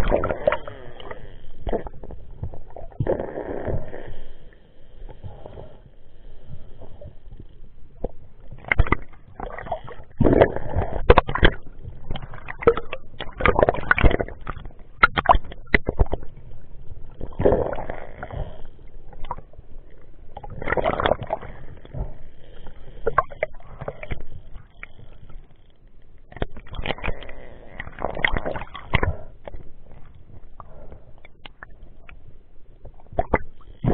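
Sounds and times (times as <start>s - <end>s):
muffled water sloshing and gurgling: 0.0s - 33.9s.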